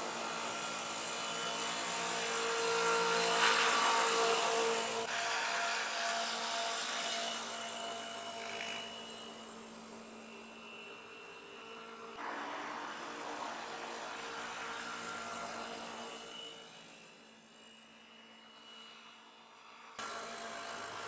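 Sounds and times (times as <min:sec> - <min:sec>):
model helicopter flying past: 0:00.0 - 0:21.0.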